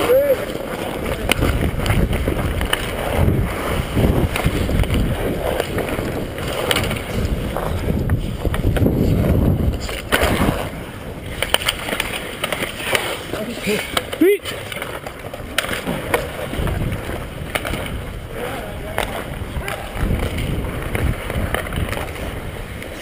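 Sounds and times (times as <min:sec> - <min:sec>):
wind on microphone: 0:00.0 - 0:12.3, 0:15.7 - 0:23.0
skate blades scraping on ice: 0:00.0 - 0:23.0.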